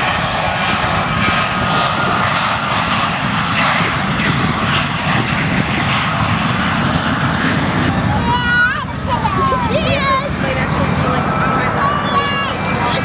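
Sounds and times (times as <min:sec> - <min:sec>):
airplane engine flying by: 0:00.0 - 0:13.0.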